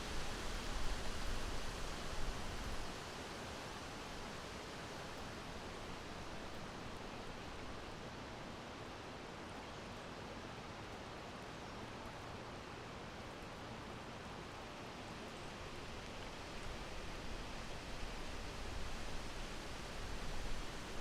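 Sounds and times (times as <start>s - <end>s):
soft breeze hissing: 0.0s - 21.0s.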